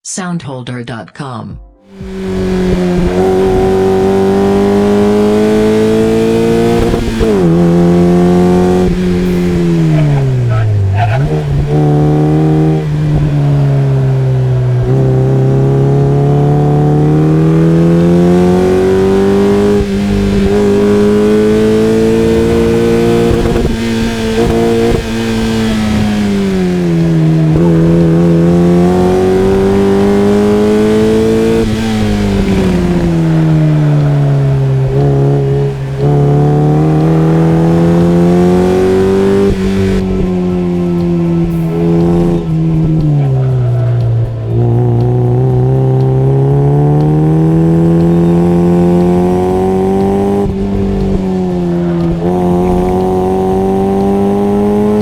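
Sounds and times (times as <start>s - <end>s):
car engine revving through gears: 1.8s - 55.0s.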